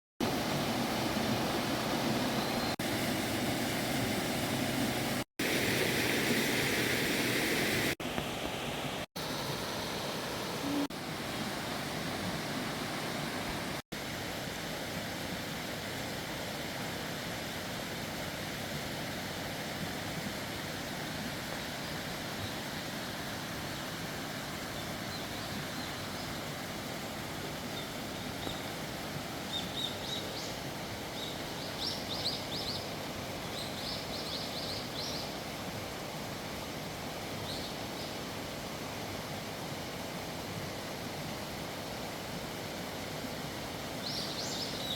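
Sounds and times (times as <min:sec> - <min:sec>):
mountain stream rushing: 0:00.2 - 0:44.9.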